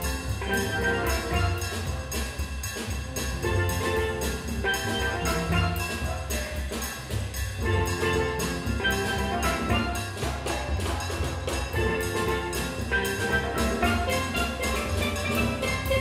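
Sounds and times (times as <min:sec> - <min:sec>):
steel drum band playing: 0:00.0 - 0:16.0.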